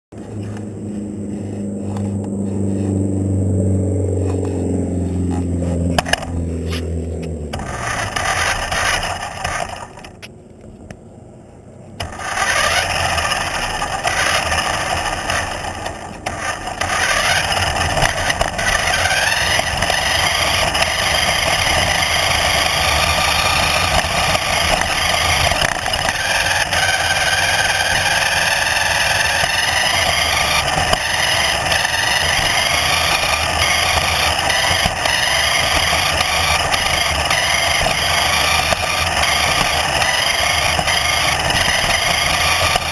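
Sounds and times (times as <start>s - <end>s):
vehicle motor running: 0.1s - 42.9s.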